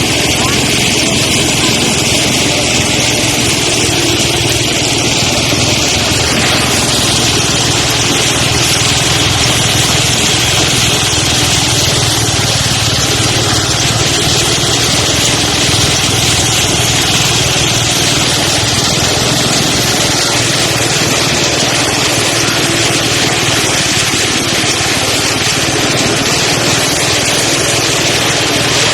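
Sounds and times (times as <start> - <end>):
rice thresher engine hum: 0.0 - 28.9
thresher hiss: 0.0 - 28.9.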